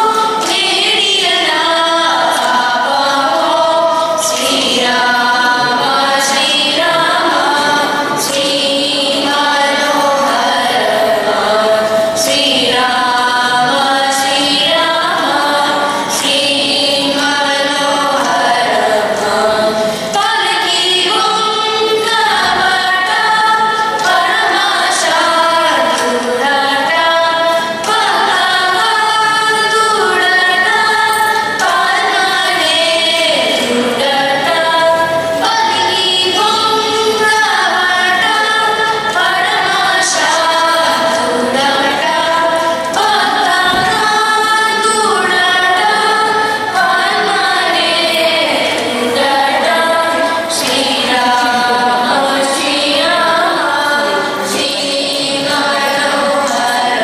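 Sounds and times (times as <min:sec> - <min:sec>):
group singing devotional song: 0:00.0 - 0:57.0.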